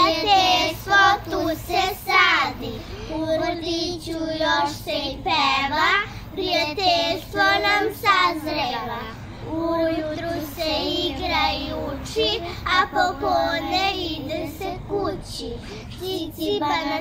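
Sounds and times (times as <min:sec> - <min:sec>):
girls singing together: 0:00.0 - 0:17.0.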